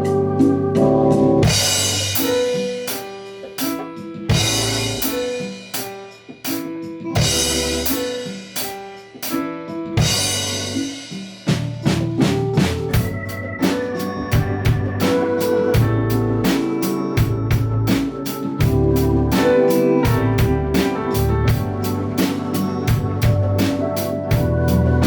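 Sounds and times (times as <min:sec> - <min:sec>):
live jazz-pop ensemble music: 0:00.0 - 0:25.0
accented drum kit hits: 0:01.4 - 0:24.8.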